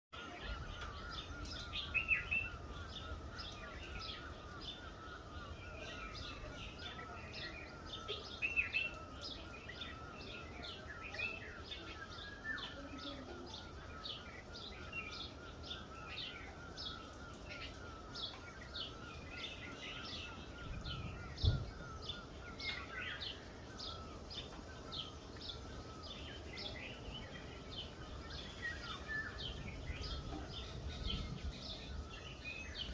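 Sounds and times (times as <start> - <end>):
birds chirping: 0.2 - 32.9.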